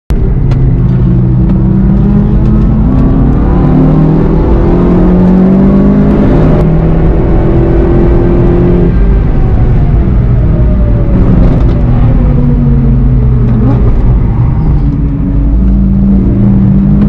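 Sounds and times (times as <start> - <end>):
car engine accelerating hard: 0.1 - 17.0.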